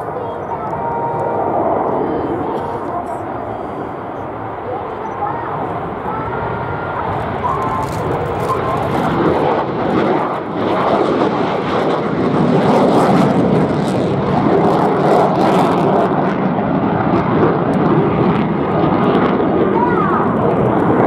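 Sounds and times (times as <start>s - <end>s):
jet aircraft noise: 0.0s - 21.0s.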